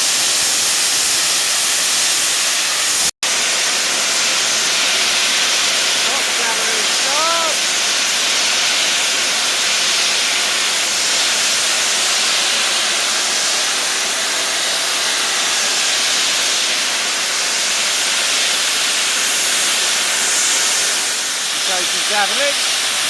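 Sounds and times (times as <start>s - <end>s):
locomotive steam hissing: 0.0s - 23.0s.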